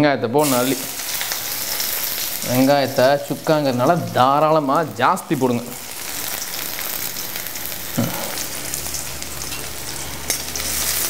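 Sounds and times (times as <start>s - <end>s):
onions sizzling in oil: 0.4s - 11.0s.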